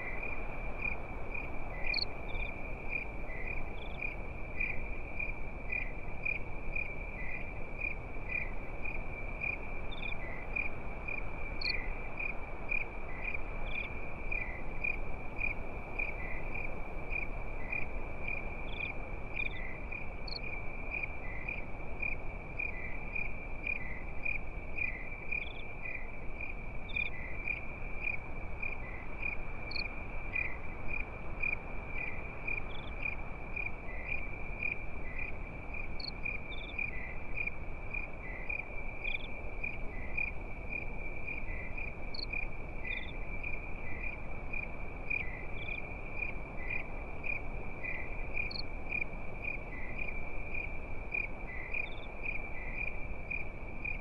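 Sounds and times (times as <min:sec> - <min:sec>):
crickets chirping: 0:00.0 - 0:54.0
faint insect chirps: 0:00.0 - 0:54.0.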